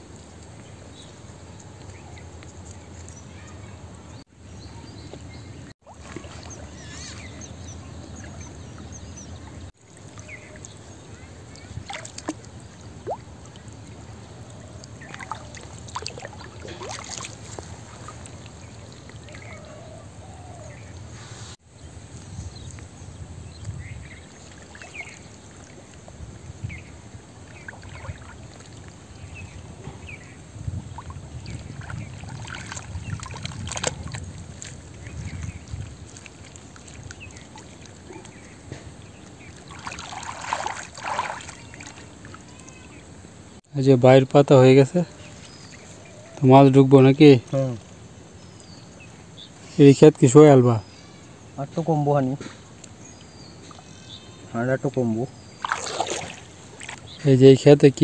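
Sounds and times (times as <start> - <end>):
muddy water trickling and splashing: 0.0 - 58.0.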